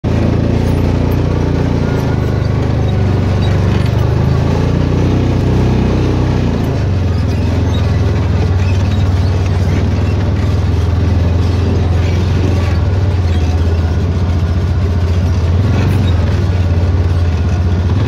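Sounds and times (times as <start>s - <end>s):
utility vehicle engine driving: 0.0s - 18.0s.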